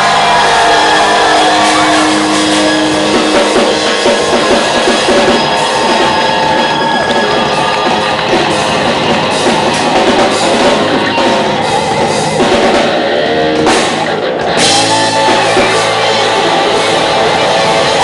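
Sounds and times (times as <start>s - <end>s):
distorted electric guitars: 0.0s - 18.0s
pounding drum kit: 0.0s - 18.0s
rock band playing loudly: 0.0s - 18.0s.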